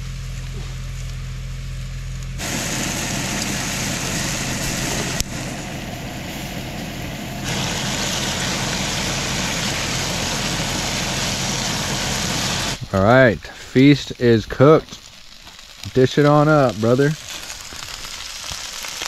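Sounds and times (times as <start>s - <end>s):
food sizzling in a pan: 2.4s - 12.8s, 13.8s - 19.0s.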